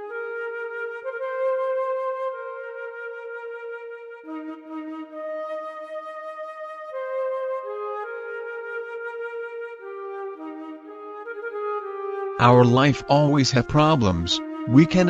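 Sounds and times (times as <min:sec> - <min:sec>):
slow flute melody: 0:00.0 - 0:15.0.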